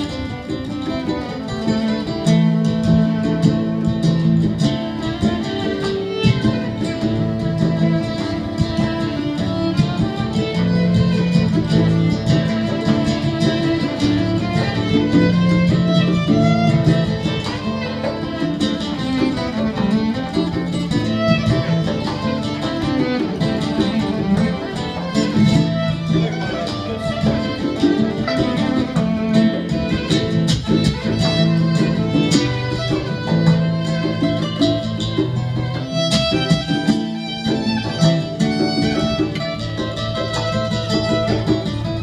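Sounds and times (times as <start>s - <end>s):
acoustic guitar: 0.0s - 42.0s
violin: 0.0s - 42.0s.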